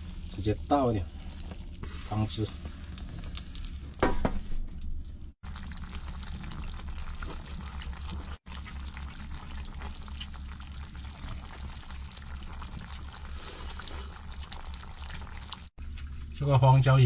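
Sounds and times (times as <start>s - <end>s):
broth pouring and splashing: 0.0s - 4.6s, 5.2s - 16.4s.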